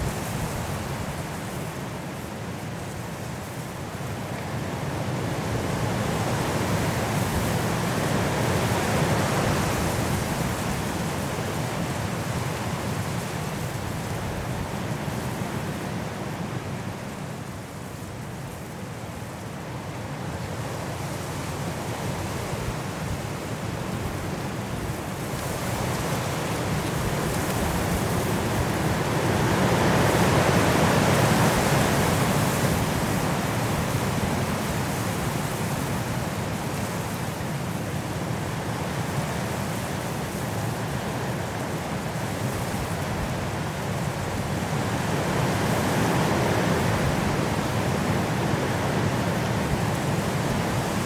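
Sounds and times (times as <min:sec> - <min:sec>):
strong wind through trees: 0:00.0 - 0:51.0.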